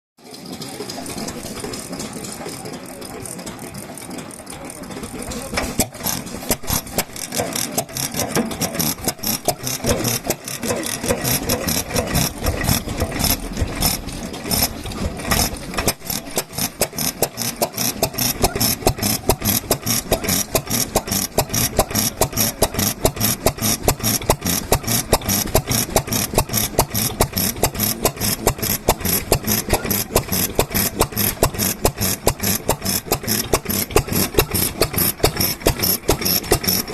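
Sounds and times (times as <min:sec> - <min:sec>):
engine rattle: 0:00.2 - 0:36.9
stationary oil engine running: 0:00.2 - 0:36.9.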